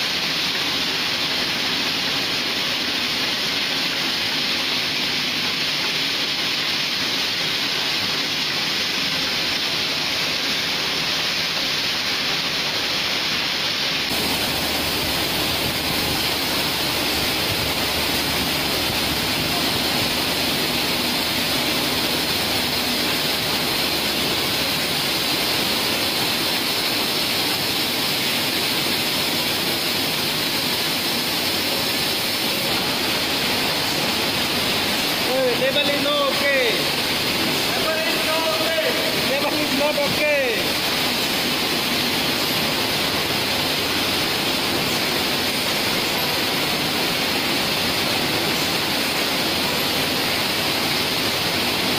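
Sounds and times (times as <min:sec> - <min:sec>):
bottling machinery rushing hiss: 0:00.0 - 0:51.9.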